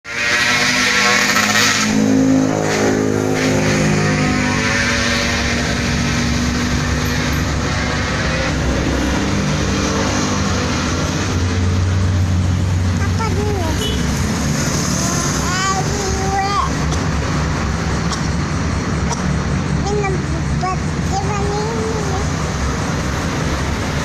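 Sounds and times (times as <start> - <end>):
road and wind noise: 0.0 - 24.0
vehicle engine running: 0.1 - 24.0.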